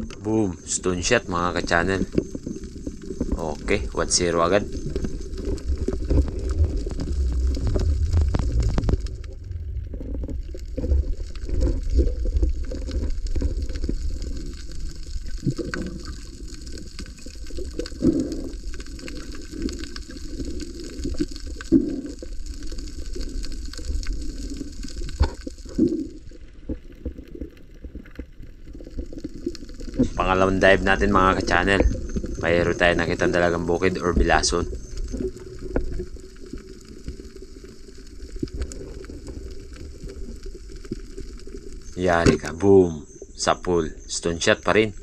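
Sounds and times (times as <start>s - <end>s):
muffled underwater gurgle: 0.0s - 45.0s.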